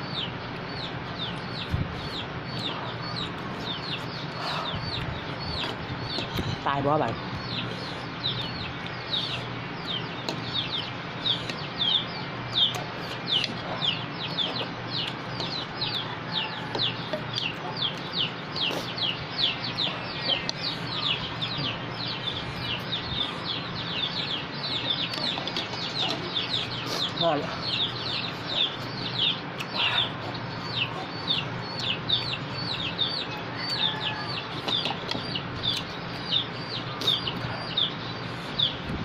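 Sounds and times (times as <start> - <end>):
chicks peeping: 0.0 - 39.0
steady low hum: 0.0 - 39.0.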